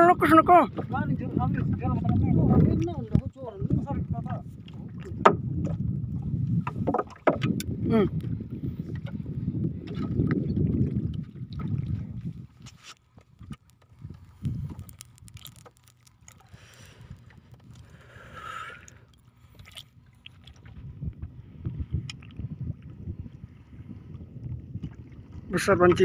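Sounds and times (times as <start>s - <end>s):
wind buffeting microphone: 0.0s - 15.6s, 16.4s - 26.0s
water slapping against boat hull: 0.0s - 26.0s.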